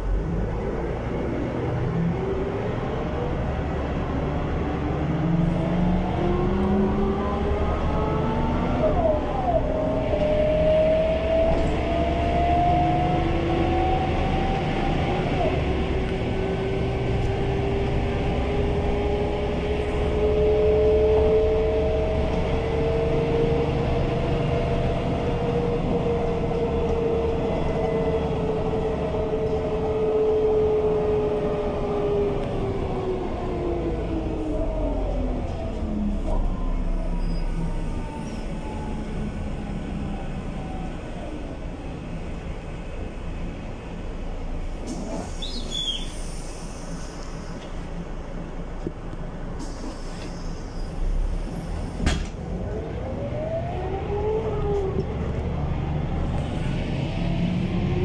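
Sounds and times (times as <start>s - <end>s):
bus engine and gearbox whine: 0.0s - 58.0s.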